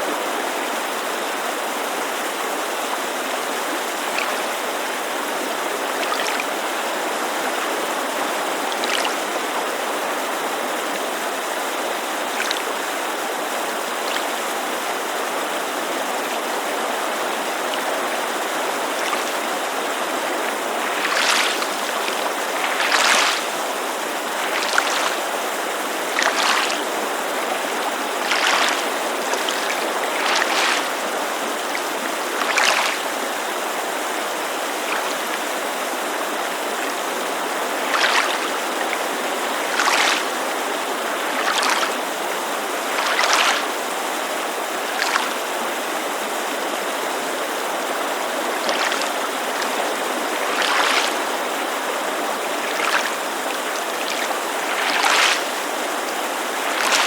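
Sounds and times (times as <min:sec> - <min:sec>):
creek rushing: 0:00.0 - 0:57.0
small waves lapping: 0:00.0 - 0:57.0.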